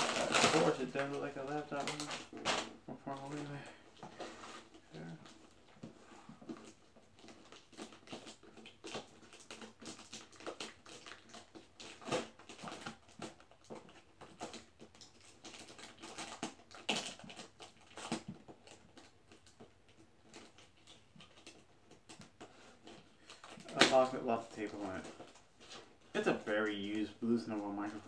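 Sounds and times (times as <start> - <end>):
scratching and crinkling cardboard box: 0.0 - 28.0.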